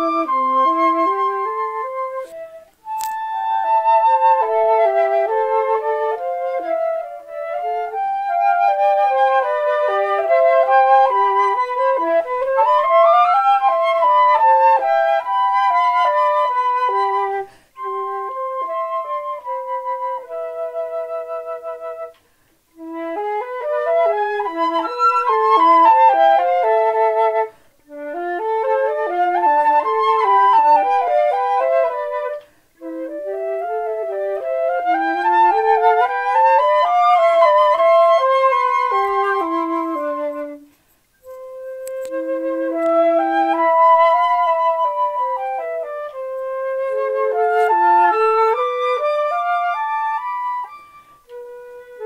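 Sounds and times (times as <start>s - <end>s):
two flutes playing a duet: 0.0s - 52.0s.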